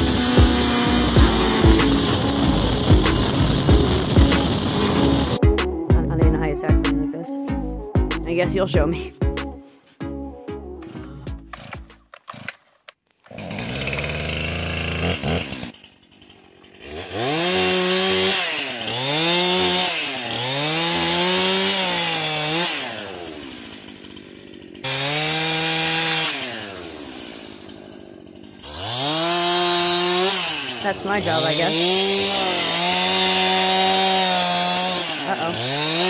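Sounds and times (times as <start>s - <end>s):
chainsaw revving: 0.0s - 5.4s, 11.1s - 36.0s.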